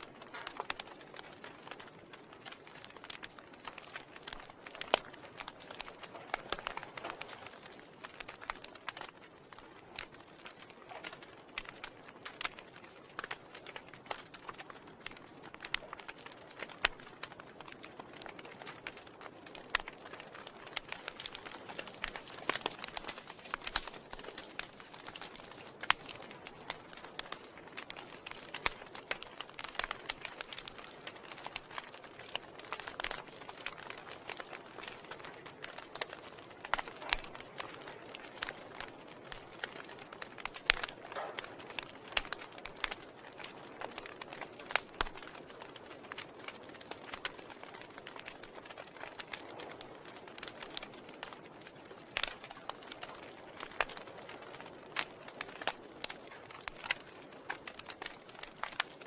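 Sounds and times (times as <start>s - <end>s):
soft steady hiss: 0.0s - 58.3s
sharp pops and snaps: 0.0s - 59.0s
wood fire crackling: 0.0s - 59.0s.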